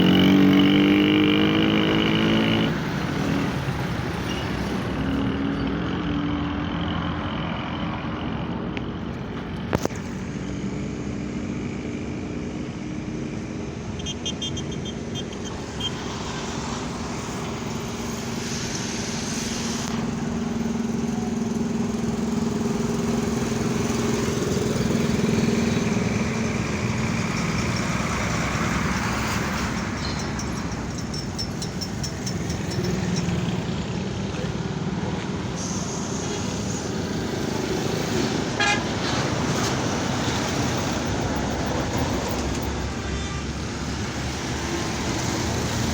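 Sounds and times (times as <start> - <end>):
heavy truck engine running: 0.0 - 45.9
road noise: 0.0 - 45.9.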